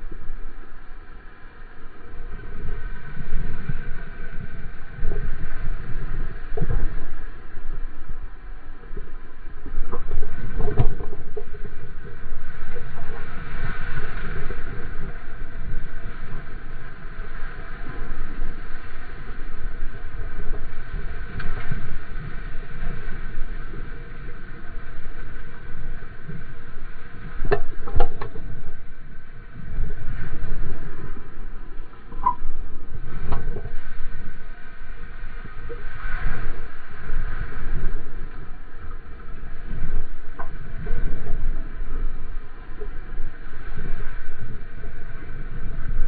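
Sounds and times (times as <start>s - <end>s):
water rushing around surfboard: 0.0s - 46.0s
wind buffeting microphone: 2.2s - 46.0s.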